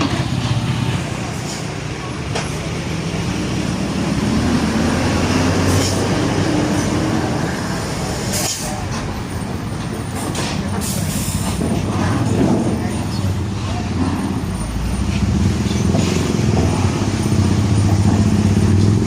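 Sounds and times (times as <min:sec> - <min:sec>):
diesel truck engine drone: 0:00.0 - 0:19.0.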